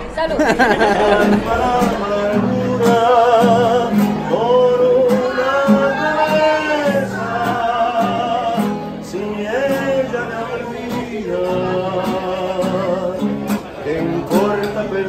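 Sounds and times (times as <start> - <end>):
acoustic guitar strumming: 0.0 - 15.0
man singing: 0.6 - 15.0.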